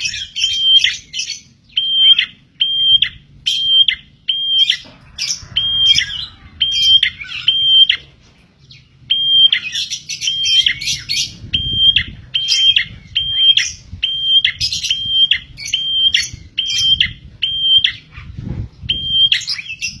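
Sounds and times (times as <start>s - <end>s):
bird calling high piping notes: 0.0s - 20.0s.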